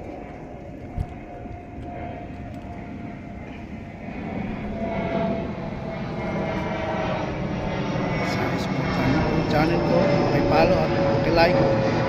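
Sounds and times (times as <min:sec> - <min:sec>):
aircraft engines droning: 0:00.0 - 0:12.0
faint engine whine: 0:00.0 - 0:12.0.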